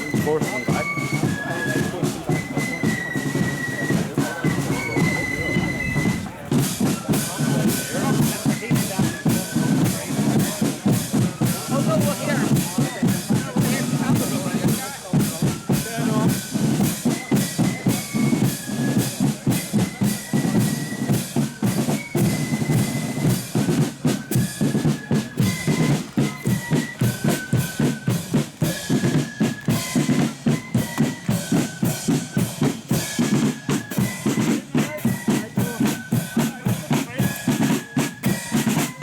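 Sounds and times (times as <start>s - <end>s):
flute melody: 0.0s - 39.0s
snare drums: 0.0s - 39.0s.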